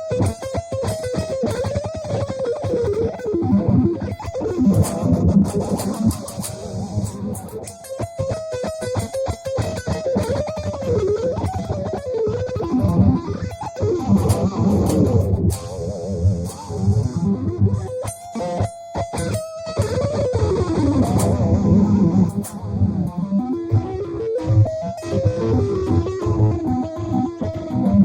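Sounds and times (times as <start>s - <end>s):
electric guitar shred runs: 0.0s - 28.0s.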